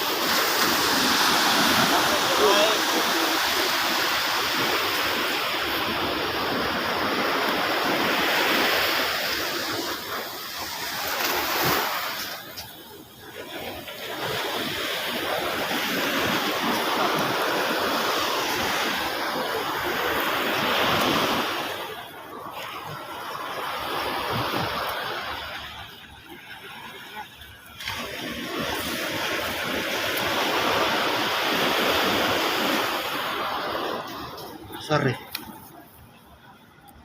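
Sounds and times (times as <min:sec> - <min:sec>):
sea surf washing ashore: 0:00.0 - 0:37.0.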